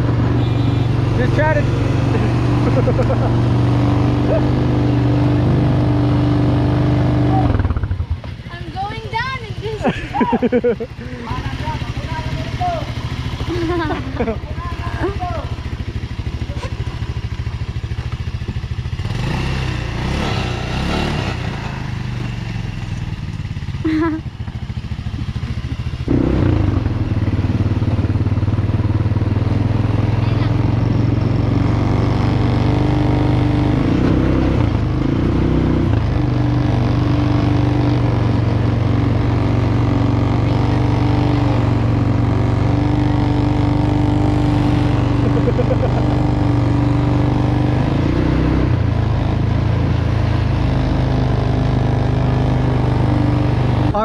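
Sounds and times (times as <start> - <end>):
atv engines idling: 0.0 - 32.9, 33.6 - 54.0
atv engine revving: 0.0 - 54.0.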